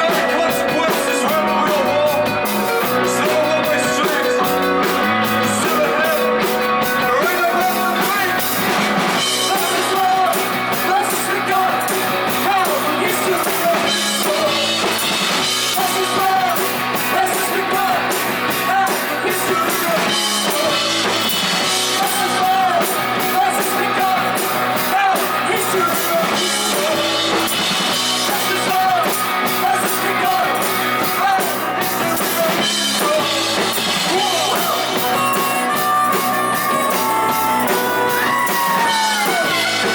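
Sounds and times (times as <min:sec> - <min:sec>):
drum kit: 0:00.0 - 0:39.9
guitars: 0:00.0 - 0:39.9
person singing: 0:00.0 - 0:39.9.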